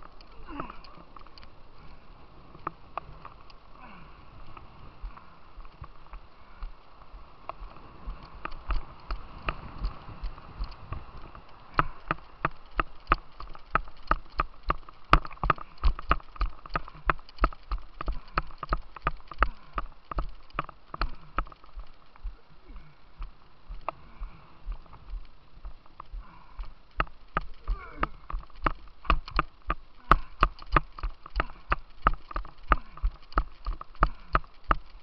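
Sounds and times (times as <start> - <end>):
footsteps on hard path: 0.0 - 35.0.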